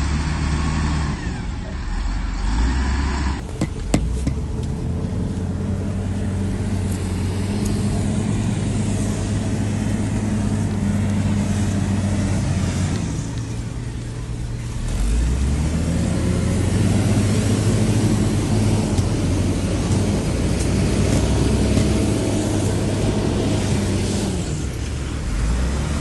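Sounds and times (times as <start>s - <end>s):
heavy machine diesel engine: 0.0s - 26.0s.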